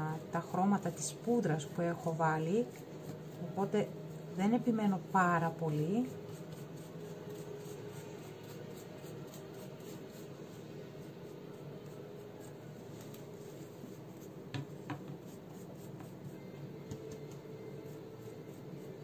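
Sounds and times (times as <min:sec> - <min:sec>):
paintbrush rubbing wax on frame: 0:00.4 - 0:14.4, 0:15.2 - 0:16.5, 0:17.6 - 0:19.0.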